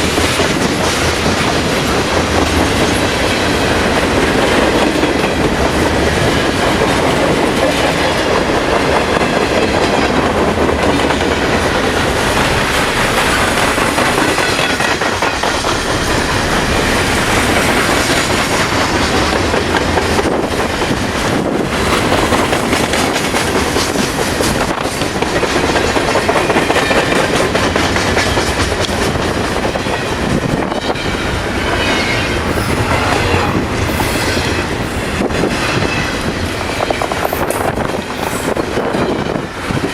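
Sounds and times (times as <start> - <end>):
wheels clacking over rail joints: 0.0 - 32.8
freight train rumbling past: 0.0 - 39.9.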